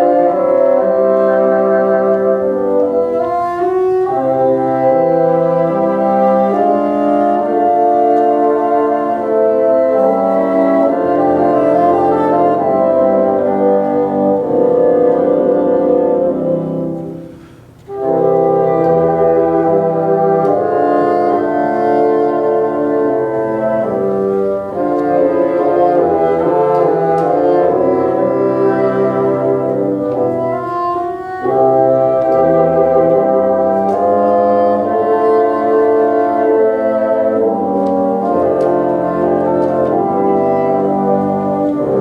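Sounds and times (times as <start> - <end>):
bassoon ensemble playing chords: 0.0 - 42.0.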